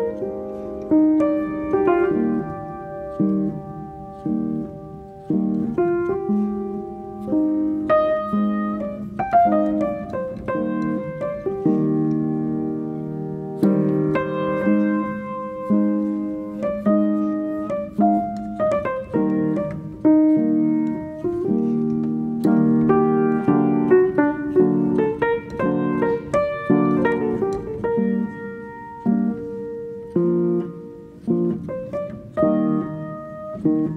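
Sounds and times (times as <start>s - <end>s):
piano music: 0.0s - 33.9s.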